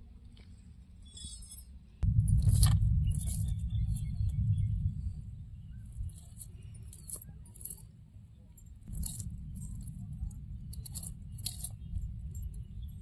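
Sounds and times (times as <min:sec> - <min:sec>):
steady low rumble: 0:02.0 - 0:13.0.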